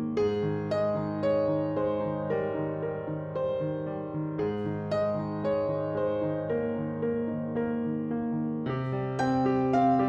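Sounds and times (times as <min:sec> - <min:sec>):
gentle keyboard music: 0:00.0 - 0:10.0.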